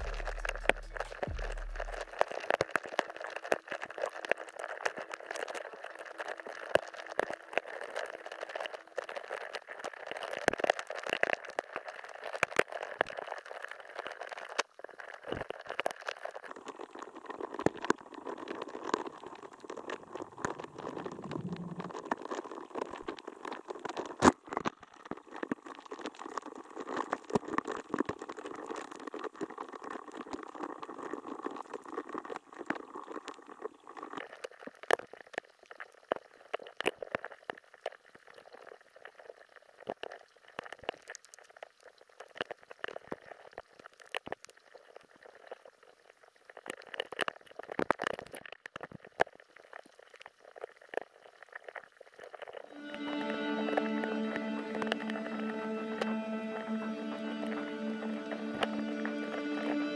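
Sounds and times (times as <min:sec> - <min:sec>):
small underwater clicks: 0:02.0 - 0:52.7.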